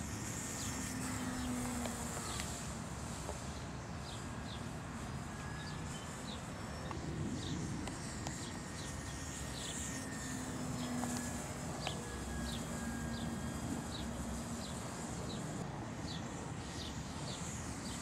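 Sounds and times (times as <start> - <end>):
model plane motor whine: 0.0 - 18.0.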